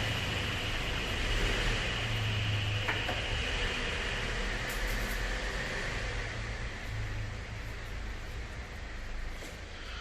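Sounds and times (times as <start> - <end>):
machine hiss and hum: 0.0 - 10.0.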